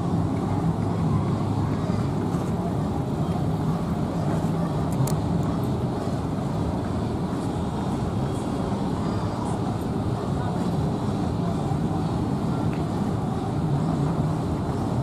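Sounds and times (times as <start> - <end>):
diesel engines droning: 0.0 - 15.0.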